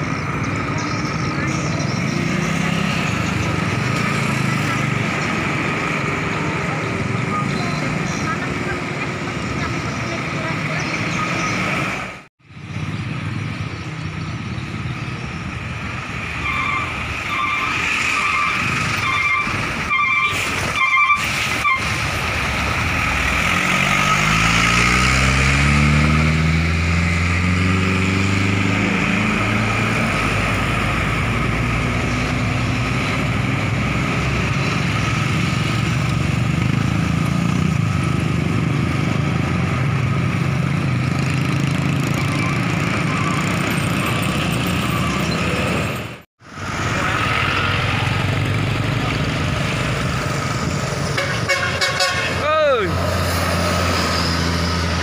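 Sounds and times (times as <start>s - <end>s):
bus diesel engine accelerating: 0.0s - 55.0s
highway traffic: 0.0s - 55.0s.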